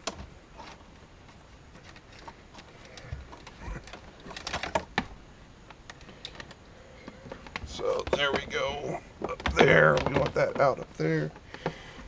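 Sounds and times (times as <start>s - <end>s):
cables clicking and rustling: 0.0s - 12.0s.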